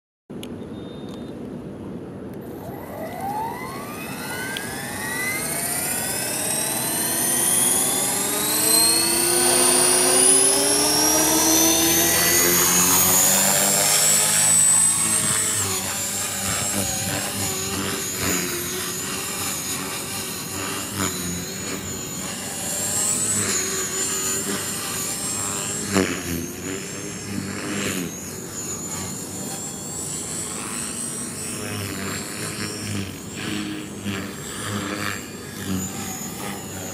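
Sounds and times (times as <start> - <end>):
model helicopter whine: 2.0 - 36.9.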